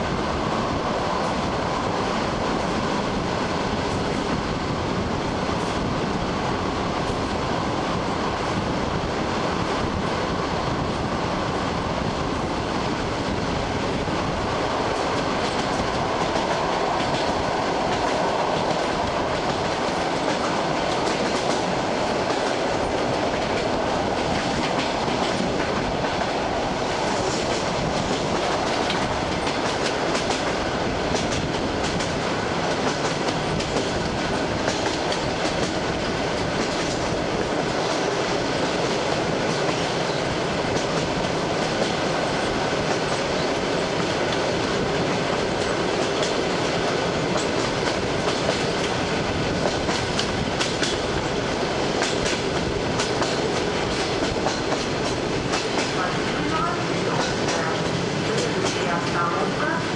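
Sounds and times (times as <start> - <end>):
train running noise inside carriage: 0.0 - 59.9.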